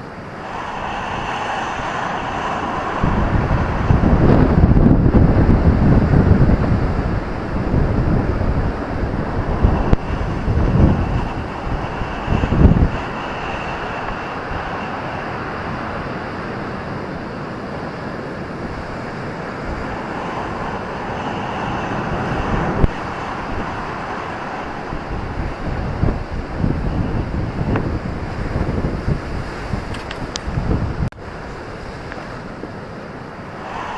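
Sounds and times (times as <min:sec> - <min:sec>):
ocean surf washing on beach: 0:00.0 - 0:33.9
wind buffeting microphone: 0:00.0 - 0:33.9.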